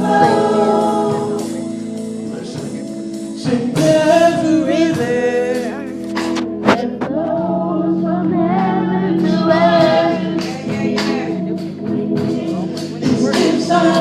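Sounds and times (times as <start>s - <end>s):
choir singing worship song: 0.0s - 14.0s
instrumental accompaniment: 0.0s - 14.0s.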